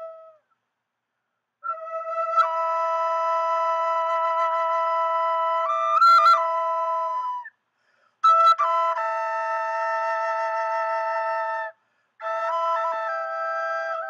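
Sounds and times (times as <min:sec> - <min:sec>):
flute playing long notes: 0:00.0 - 0:00.4, 0:01.6 - 0:07.6, 0:08.2 - 0:14.0.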